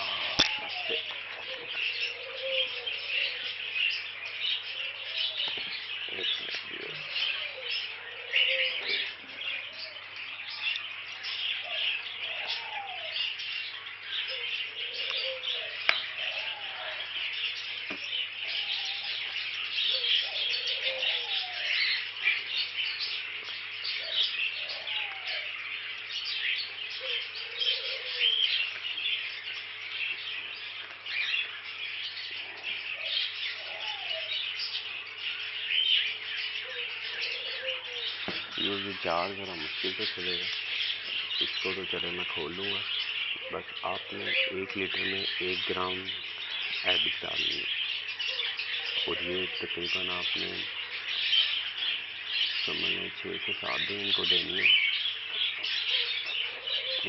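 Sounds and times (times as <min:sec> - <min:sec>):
budgerigars chirping and chattering: 0:00.0 - 0:57.0
rising-and-falling bird calls: 0:00.0 - 0:57.0.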